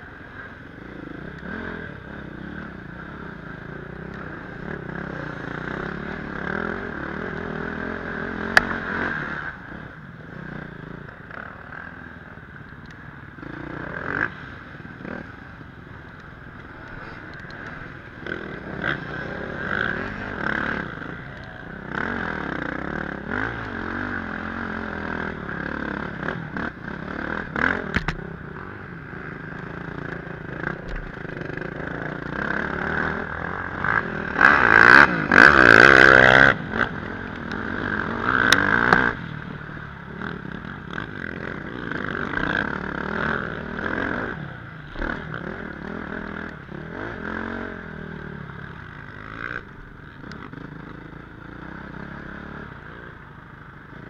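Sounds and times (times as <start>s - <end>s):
dirt bike engine revving: 0.3s - 12.4s, 13.3s - 54.0s.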